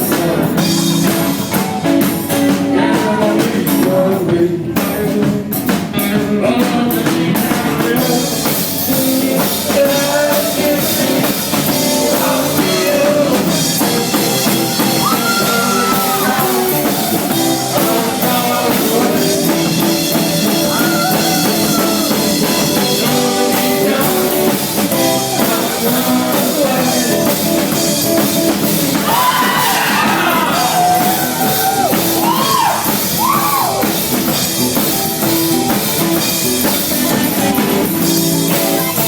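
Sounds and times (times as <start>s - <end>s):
person singing: 0.0s - 34.3s
drum kit: 0.0s - 39.0s
electric guitar: 0.0s - 39.0s.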